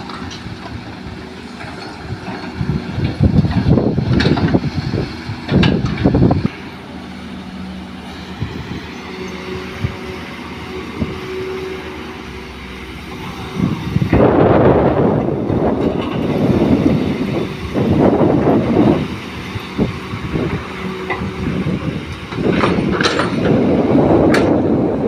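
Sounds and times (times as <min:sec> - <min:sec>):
diesel engines droning: 0:00.0 - 0:25.0.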